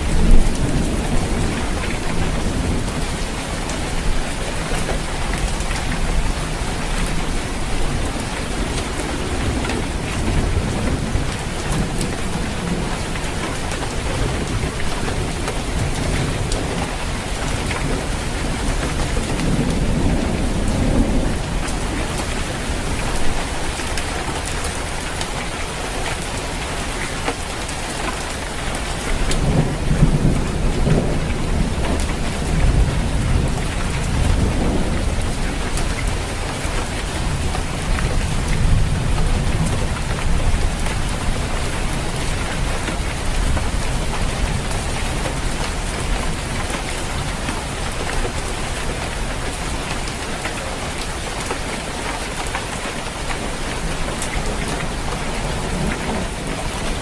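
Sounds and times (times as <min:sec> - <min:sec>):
low roll of thunder: 0:00.0 - 0:25.8, 0:28.5 - 0:49.8
rain falling on a roof: 0:00.0 - 0:57.0.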